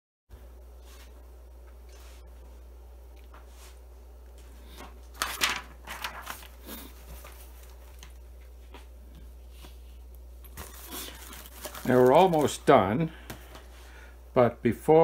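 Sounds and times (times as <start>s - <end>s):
steady low hum: 0.3s - 15.0s.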